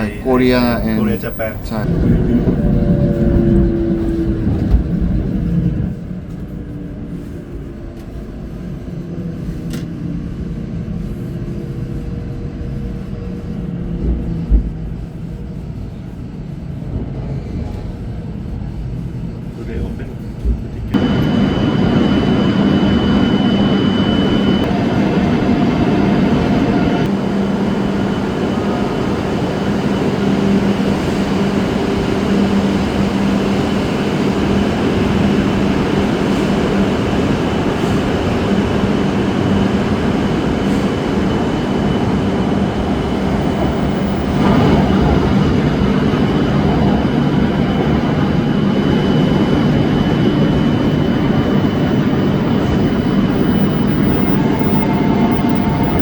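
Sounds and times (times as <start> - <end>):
faint high whine: 0.0 - 10.2, 21.0 - 56.0
low hum: 0.0 - 56.0
train rumble and rush: 0.0 - 56.0.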